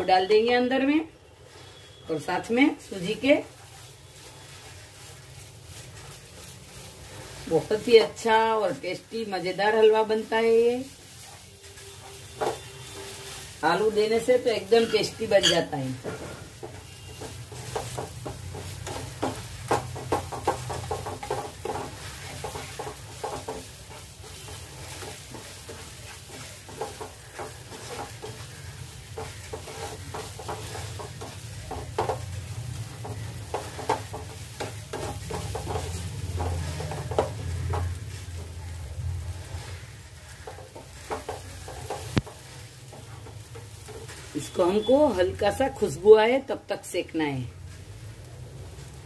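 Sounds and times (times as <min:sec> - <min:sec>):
light sizzle: 0:00.0 - 0:49.0
wooden spatula scraping pan: 0:01.4 - 0:46.1.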